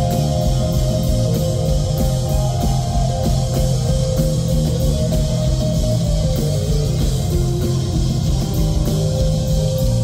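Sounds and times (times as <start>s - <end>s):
live electronic rock band: 0.0s - 10.0s.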